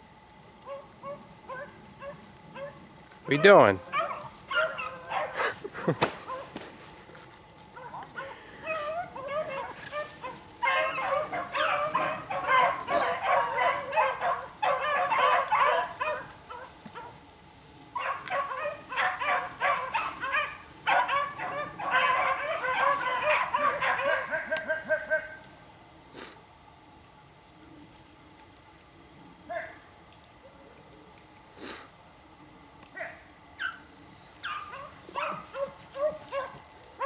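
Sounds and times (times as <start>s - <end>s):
dogs baying and barking: 0.6s - 17.3s, 17.9s - 25.6s, 29.4s - 30.6s, 32.8s - 37.0s.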